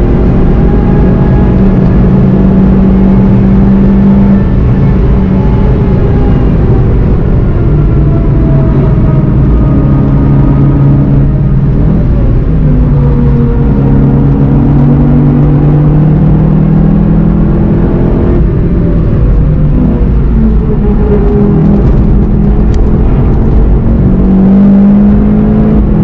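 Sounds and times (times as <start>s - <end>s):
car engine running hard: 0.0s - 26.0s
road and tyre noise: 0.0s - 26.0s.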